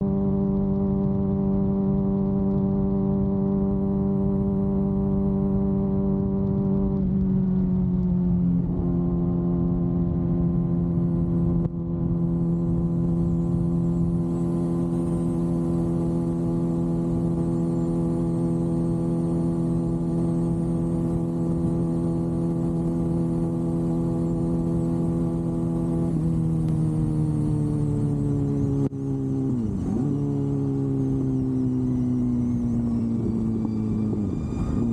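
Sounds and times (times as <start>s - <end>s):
motorcycle engine at high revs: 0.0s - 34.9s.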